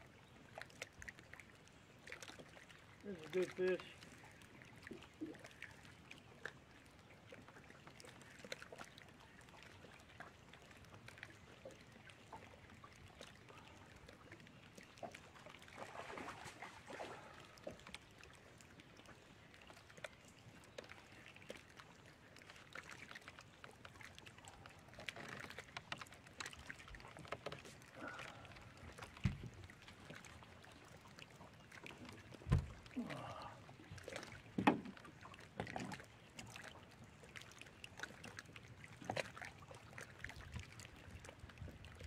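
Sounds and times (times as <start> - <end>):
water lapping against boat hull: 0.0 - 42.0.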